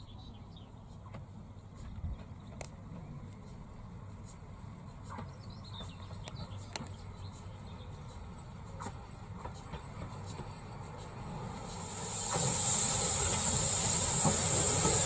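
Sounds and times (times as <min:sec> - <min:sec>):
steam locomotive rumbling: 0:00.8 - 0:15.0.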